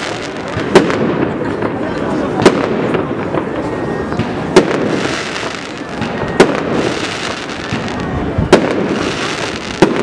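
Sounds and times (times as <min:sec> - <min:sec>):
background noise: 0:00.0 - 0:10.0
fireworks bursting: 0:00.0 - 0:10.0.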